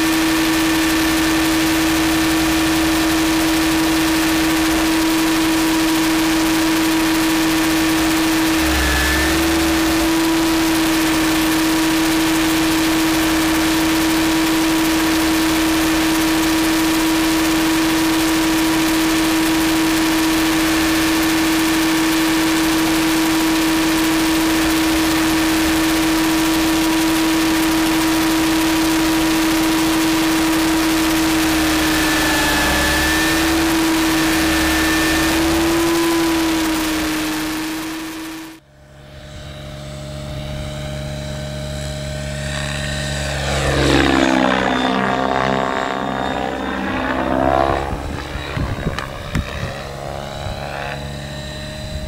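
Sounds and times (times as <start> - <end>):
helicopter rotor whine: 0.0 - 52.0.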